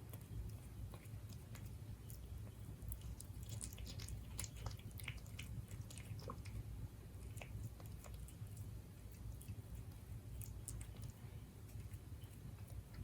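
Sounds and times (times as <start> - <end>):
cat chewing food: 0.0 - 13.0.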